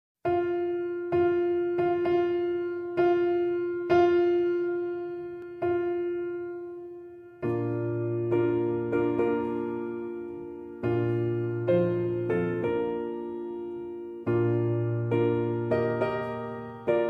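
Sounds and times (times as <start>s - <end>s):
slow piano-like keyboard music: 0.2s - 17.0s.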